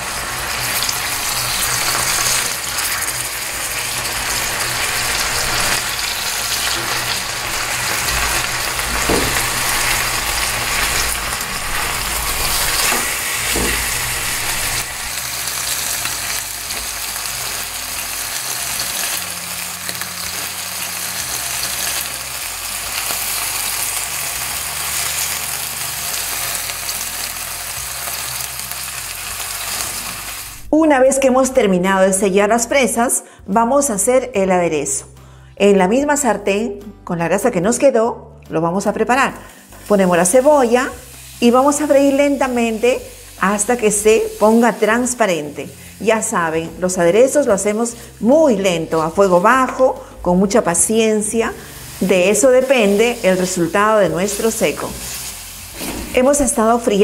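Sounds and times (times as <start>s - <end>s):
meat sizzling in hot oil: 0.0s - 30.7s, 39.2s - 57.0s.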